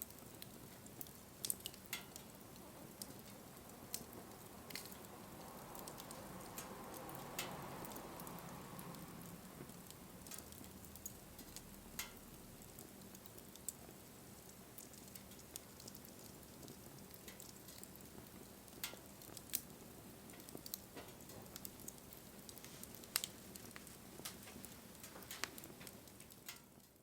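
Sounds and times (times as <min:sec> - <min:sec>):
faint fire hiss: 0:00.0 - 0:27.0
fire crackles and pops: 0:00.0 - 0:27.0.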